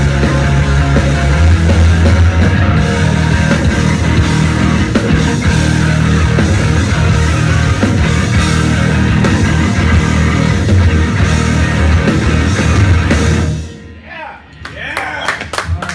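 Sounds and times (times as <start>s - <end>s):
rock band playing heavy music: 0.0s - 14.8s.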